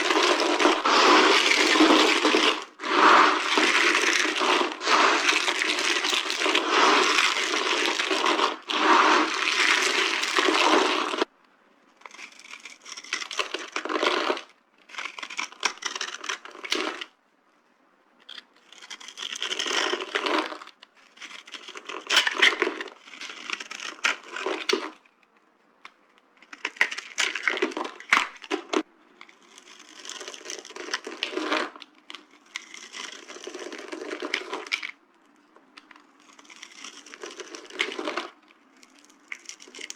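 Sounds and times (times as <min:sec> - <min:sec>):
dry soap crunching: 0:00.0 - 0:11.3, 0:12.0 - 0:17.1, 0:18.3 - 0:25.0, 0:26.4 - 0:39.9.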